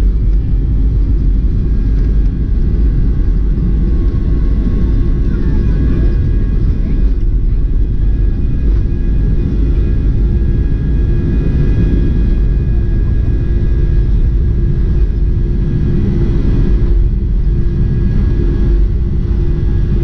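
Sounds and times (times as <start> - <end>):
constant hum: 0.0 - 20.0
vehicle rumbling: 0.0 - 20.0.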